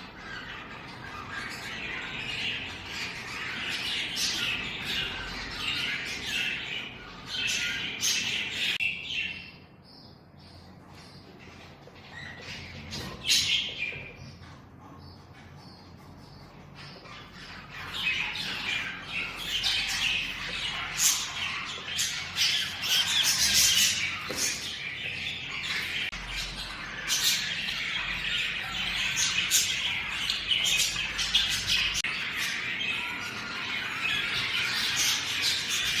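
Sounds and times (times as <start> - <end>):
budgerigars chattering: 0.0 - 36.0.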